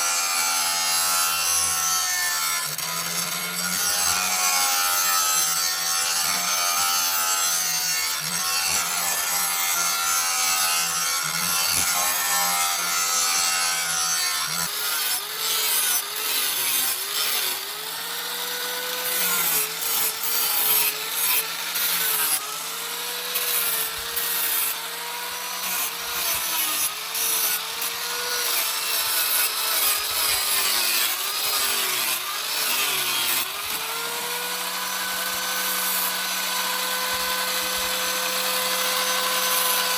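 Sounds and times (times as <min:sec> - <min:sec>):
power tool grinding: 0:00.0 - 0:39.9.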